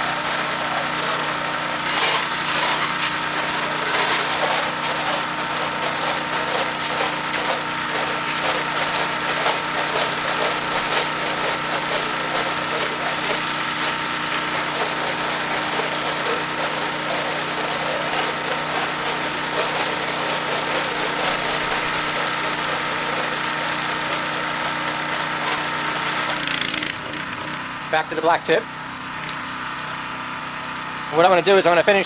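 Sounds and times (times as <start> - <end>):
pressure washer engine running: 0.0 - 32.0.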